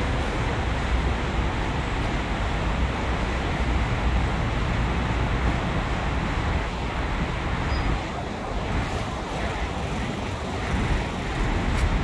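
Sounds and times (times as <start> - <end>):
distant street traffic: 0.0 - 12.0
wind buffeting microphone: 0.0 - 12.0.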